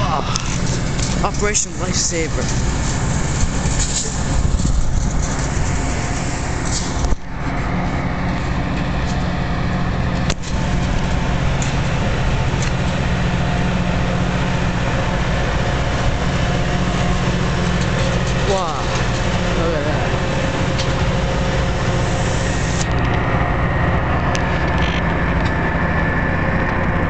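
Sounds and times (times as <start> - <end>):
diesel locomotive idling drone: 0.0 - 27.0.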